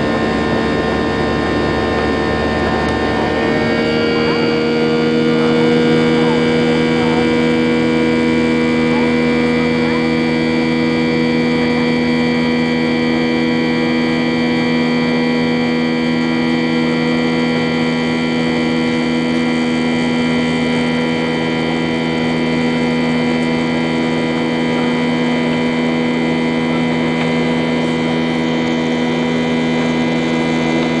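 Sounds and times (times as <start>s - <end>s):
jet engine drone: 0.0s - 31.0s.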